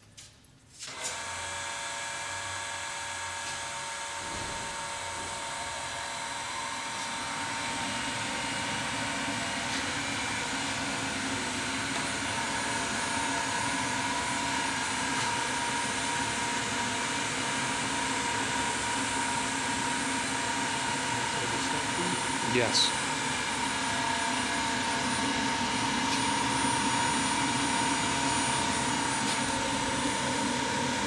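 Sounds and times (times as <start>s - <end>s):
grinder motor whine: 0.9s - 31.0s.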